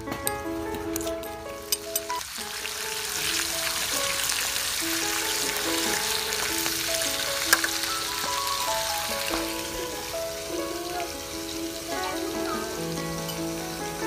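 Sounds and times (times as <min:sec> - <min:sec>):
squid sizzling in hot oil: 0:01.6 - 0:14.0.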